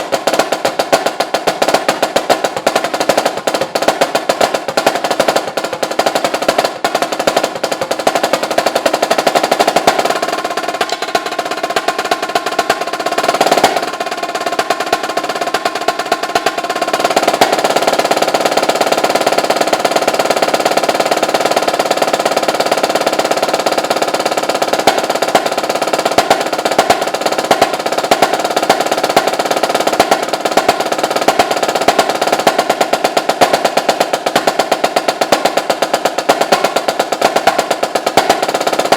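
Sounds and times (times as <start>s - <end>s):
snare drum rolls: 0.0s - 38.9s.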